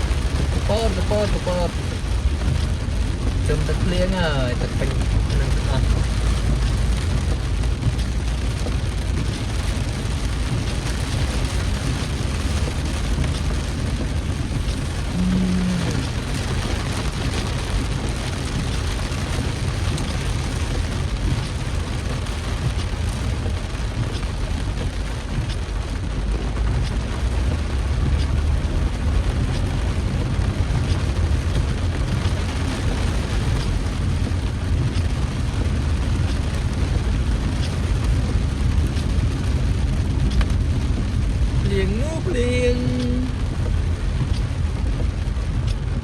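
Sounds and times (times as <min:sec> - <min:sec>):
deep rumble: 0:00.0 - 0:46.0
heavy rain hiss: 0:00.0 - 0:46.0
raindrop ticks: 0:00.0 - 0:46.0.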